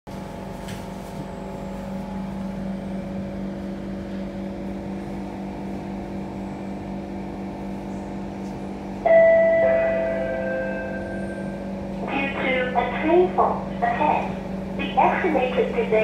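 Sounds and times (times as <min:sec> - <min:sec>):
electric train low hum: 0:00.1 - 0:16.0.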